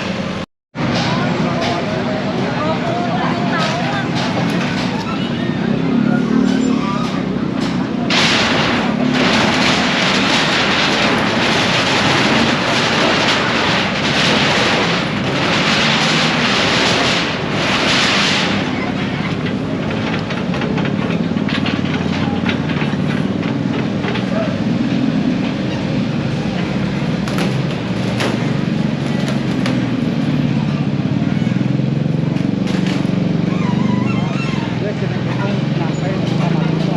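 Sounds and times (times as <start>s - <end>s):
steady engine drone: 0.0s - 36.9s
crashing and scraping: 0.8s - 31.2s
rapid knocks and clatter: 3.4s - 31.2s, 31.9s - 33.8s.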